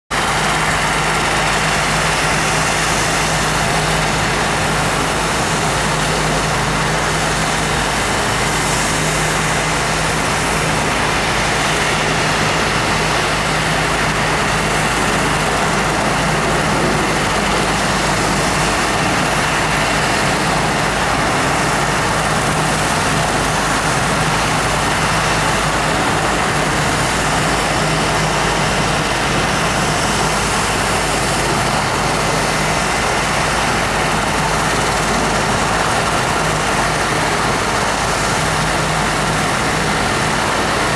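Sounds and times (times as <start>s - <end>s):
helicopter turbine and rotor noise: 0.1s - 40.9s.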